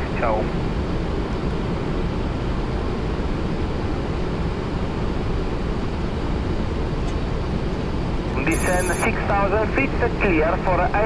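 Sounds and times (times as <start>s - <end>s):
aircraft engine noise: 0.0s - 11.0s.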